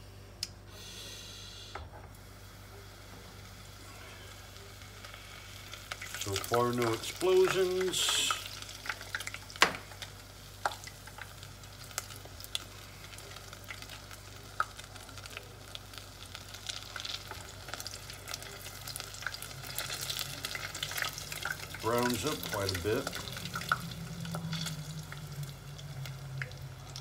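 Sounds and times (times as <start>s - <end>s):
oil sizzling: 2.2s - 27.0s.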